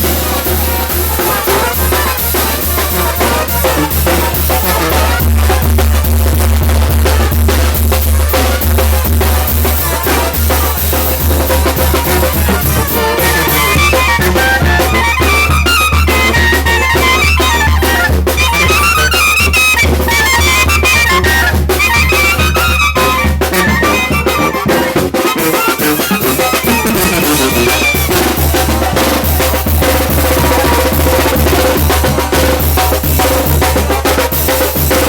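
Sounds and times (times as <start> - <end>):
bass drum and cymbals: 0.0 - 35.0
brass and clarinet melody: 0.0 - 35.0.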